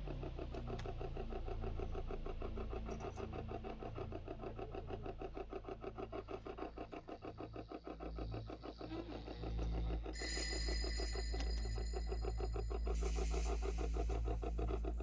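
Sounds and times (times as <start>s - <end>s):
shifting low tones: 0.0s - 15.0s.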